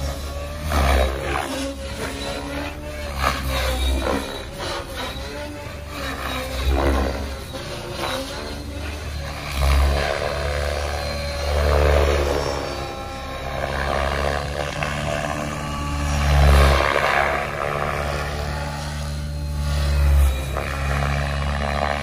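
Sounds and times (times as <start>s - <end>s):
model helicopter flying: 0.0s - 22.0s.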